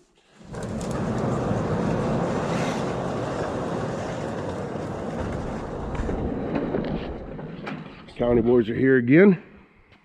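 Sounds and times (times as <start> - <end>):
vehicle engine rumbling: 0.2 - 8.7.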